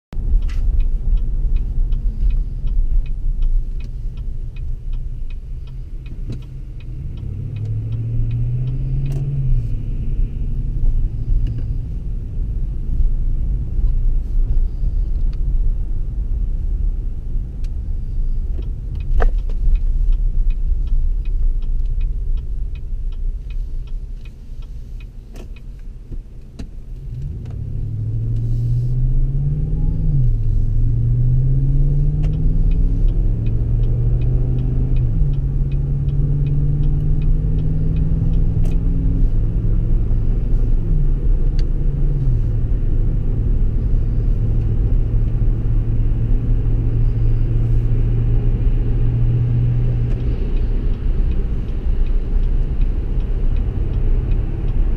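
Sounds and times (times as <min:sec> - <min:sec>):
truck engine and road noise: 0:00.1 - 0:54.9
turn signal ticking: 0:00.2 - 0:54.9.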